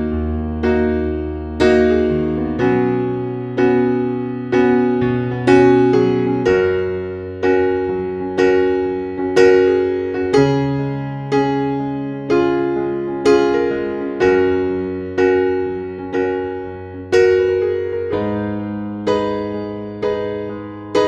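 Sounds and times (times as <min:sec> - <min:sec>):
slow electric piano chords: 0:00.0 - 0:21.0.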